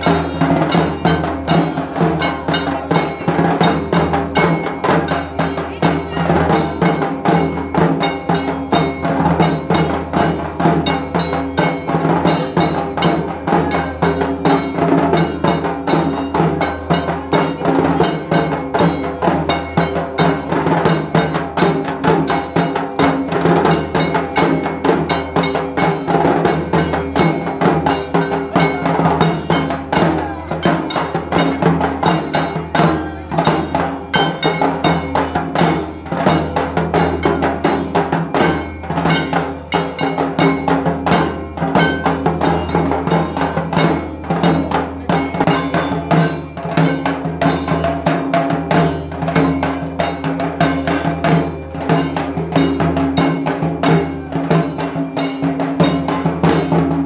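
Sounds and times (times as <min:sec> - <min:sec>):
barrel drums beaten fast: 0:00.0 - 0:57.0.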